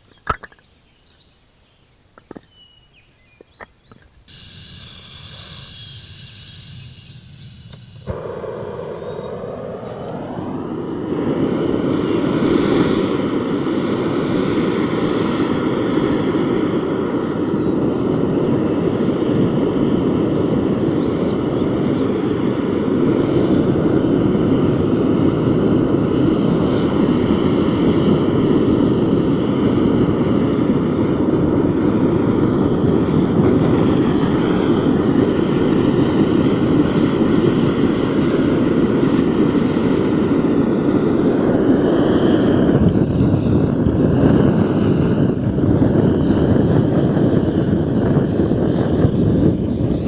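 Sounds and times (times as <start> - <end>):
faint steady tones: 3.9 - 50.0
fire rushing: 5.6 - 50.0.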